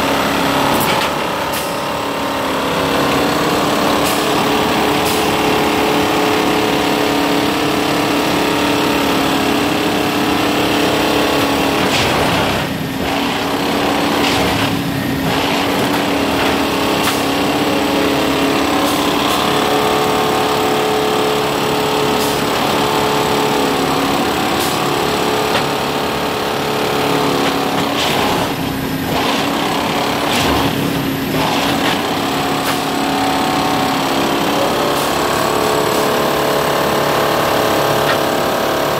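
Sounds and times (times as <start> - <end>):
machine engine drone: 0.0 - 38.9.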